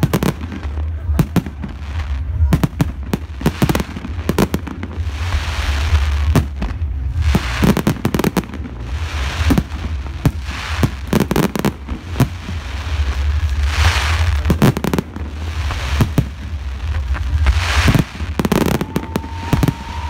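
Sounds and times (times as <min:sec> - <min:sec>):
fireworks bangs: 0:00.0 - 0:20.0
hissing crackle of fireworks: 0:00.0 - 0:20.0
low rumble: 0:00.0 - 0:20.0.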